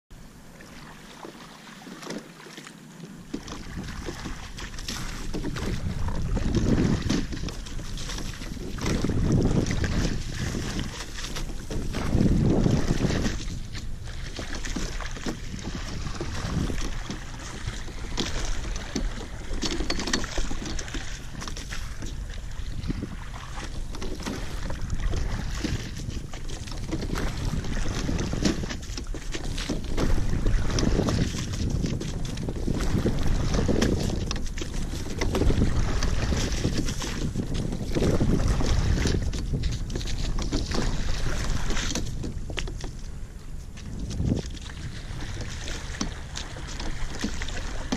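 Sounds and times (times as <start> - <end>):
water rushing along boat hull: 0.1 - 47.9
oars ticking and splashing: 0.4 - 47.9
wind rumble on microphone: 3.2 - 47.9.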